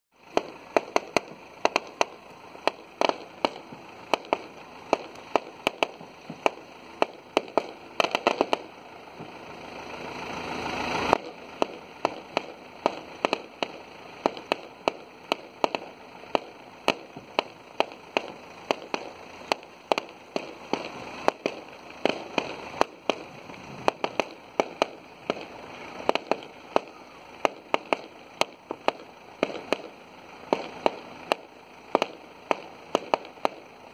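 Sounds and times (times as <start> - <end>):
firecrackers banging: 0.2 - 33.9.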